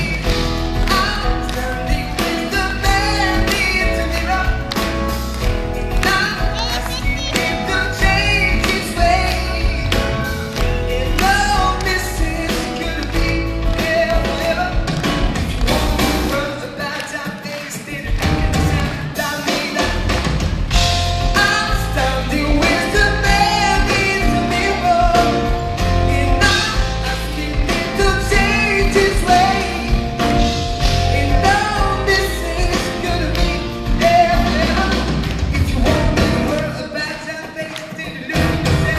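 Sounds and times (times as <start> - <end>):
man singing into microphone: 0.0 - 5.1, 5.8 - 20.3, 21.2 - 38.9
live pop song with band: 0.0 - 38.9.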